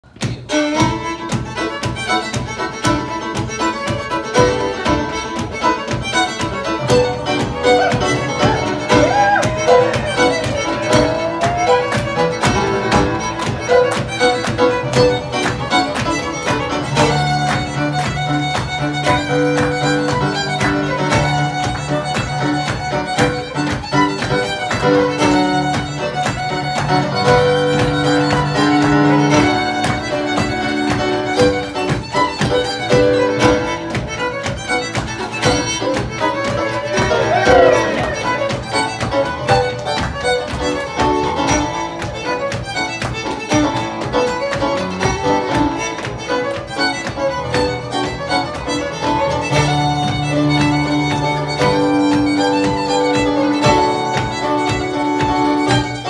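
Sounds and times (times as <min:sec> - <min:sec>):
fiddle playing a tune: 0:00.0 - 0:56.0.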